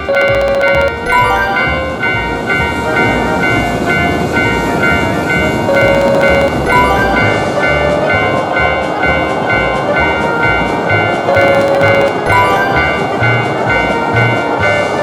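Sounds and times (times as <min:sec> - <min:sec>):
passing train rumble: 0:00.0 - 0:15.0
railroad crossing bell clanging: 0:00.0 - 0:15.0.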